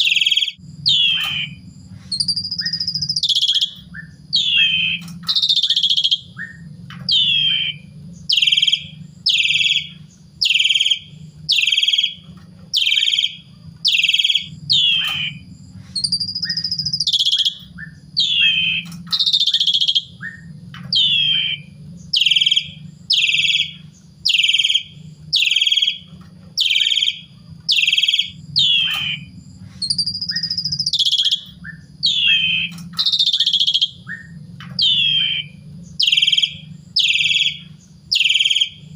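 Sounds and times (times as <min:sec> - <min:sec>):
low steady hum: 0:00.0 - 0:38.9
starling singing: 0:00.0 - 0:38.9.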